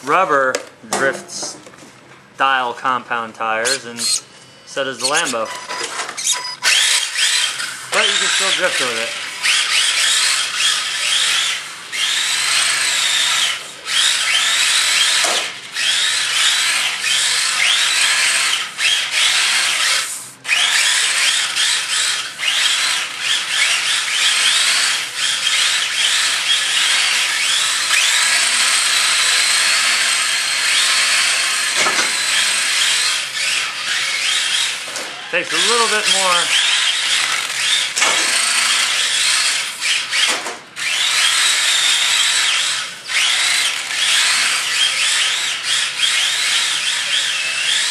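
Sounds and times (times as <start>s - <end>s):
rc car electric motors whining: 3.7s - 4.3s, 5.0s - 47.9s.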